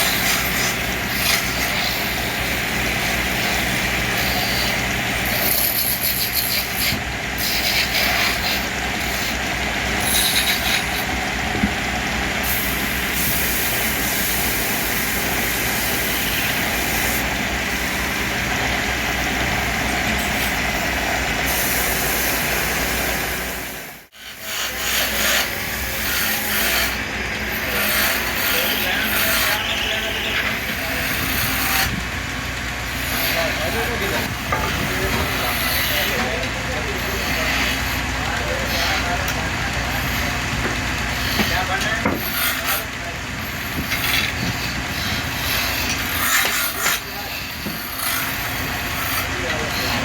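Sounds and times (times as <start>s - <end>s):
turning chisel scraping spinning wood: 0.0s - 23.4s, 24.1s - 50.0s
lathe motor hum: 0.0s - 50.0s.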